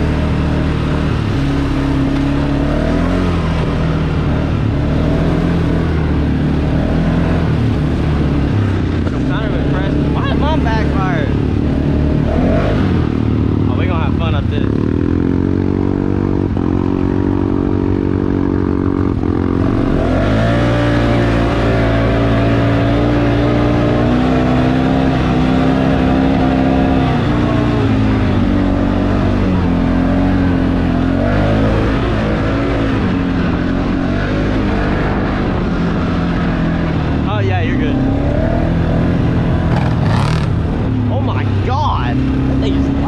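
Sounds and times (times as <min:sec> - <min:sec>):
four-wheeler engine revving: 0:00.0 - 0:43.0.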